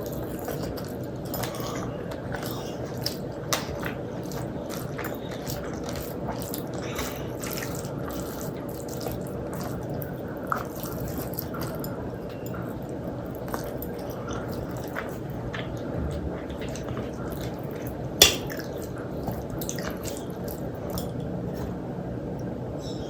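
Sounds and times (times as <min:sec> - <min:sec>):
wet eating sounds: 0:00.0 - 0:21.8.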